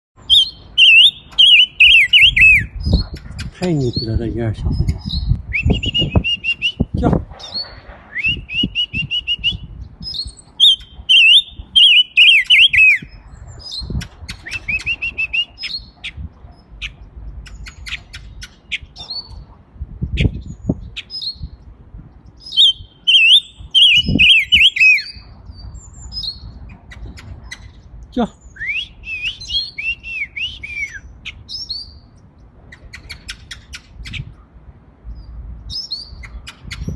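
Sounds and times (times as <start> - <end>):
songbird chirping and warbling: 0.2 - 36.9.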